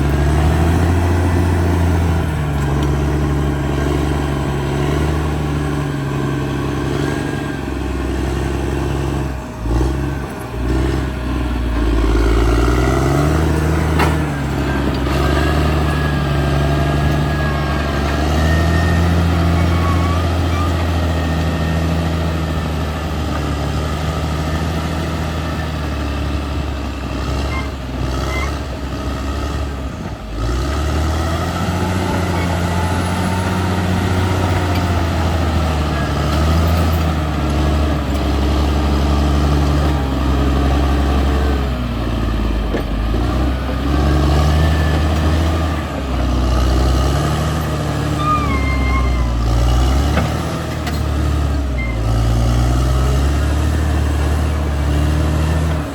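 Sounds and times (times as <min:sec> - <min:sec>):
bulldozer diesel engine working: 0:00.0 - 0:55.9.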